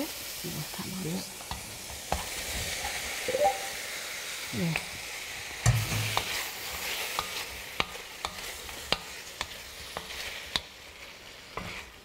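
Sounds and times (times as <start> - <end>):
chicken sizzling in wok: 0.0 - 12.0.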